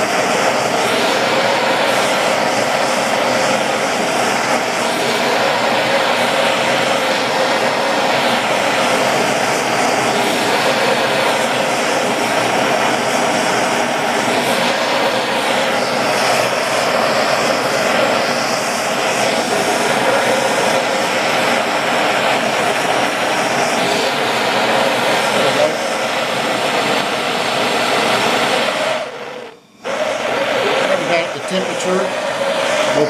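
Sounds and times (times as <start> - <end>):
propane torch hissing: 0.0 - 33.0.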